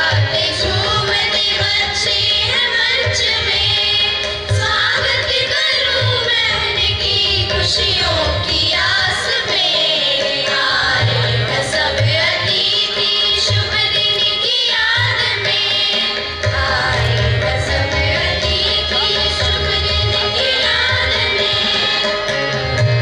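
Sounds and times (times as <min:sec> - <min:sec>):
girls singing in unison: 0:00.0 - 0:22.1.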